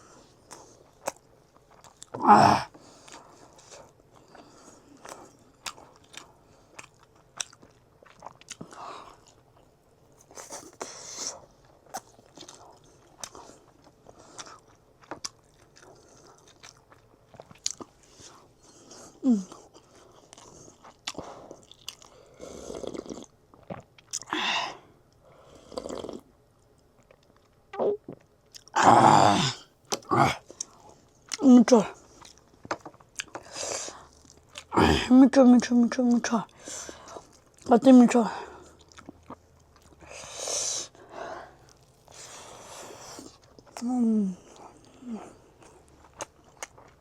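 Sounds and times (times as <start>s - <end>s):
person chewing food: 0.0s - 24.3s, 25.1s - 34.9s, 36.5s - 37.7s, 38.4s - 47.0s.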